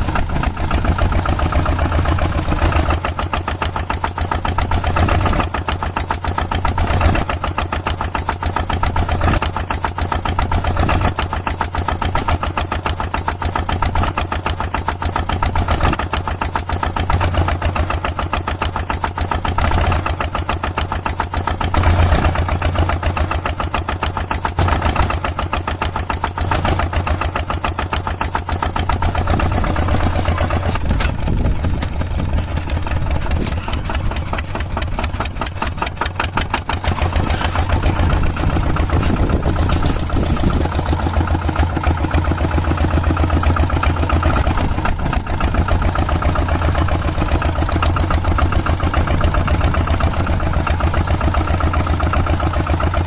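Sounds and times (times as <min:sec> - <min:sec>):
tractor engine chugging: 0:00.0 - 0:53.0.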